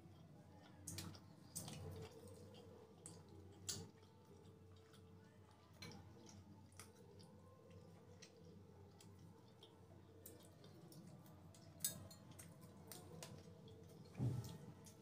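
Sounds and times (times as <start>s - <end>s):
mouth chewing soft food: 0.0s - 15.0s.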